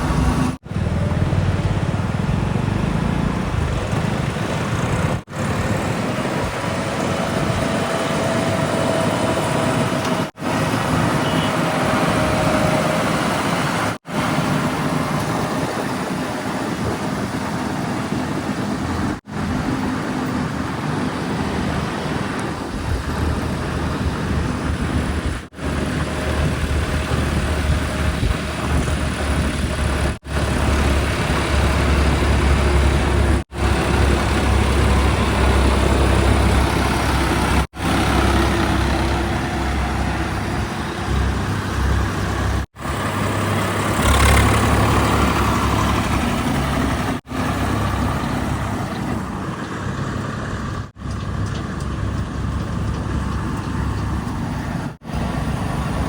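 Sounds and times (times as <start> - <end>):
diesel machinery engines rumbling: 0.0 - 56.0.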